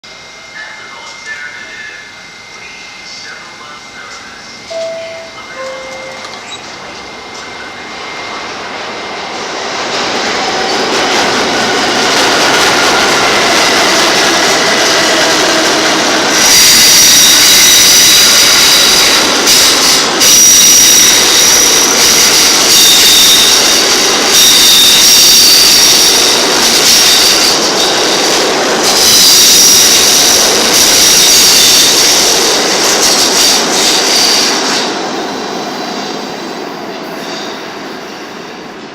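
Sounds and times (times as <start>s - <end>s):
subway train rail noise: 0.0s - 38.9s.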